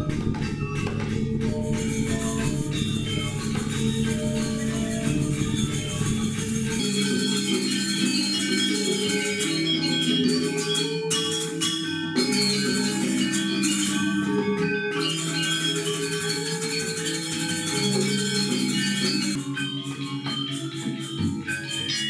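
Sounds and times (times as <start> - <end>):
hand drums: 0.0 - 22.0
metallophones ringing: 0.0 - 22.0.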